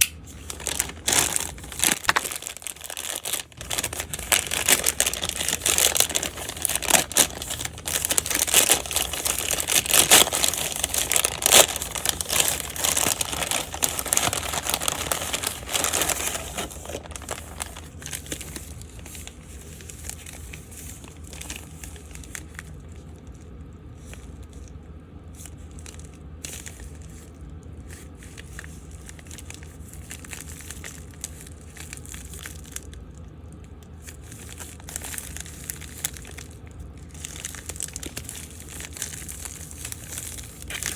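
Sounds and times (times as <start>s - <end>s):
packaging crinkling: 0.0s - 24.7s, 25.4s - 40.9s.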